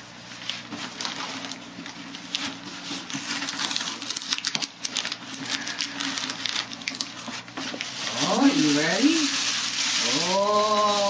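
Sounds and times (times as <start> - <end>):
paper bag crinkling: 0.3 - 11.0
wrapping paper tearing: 0.4 - 11.0.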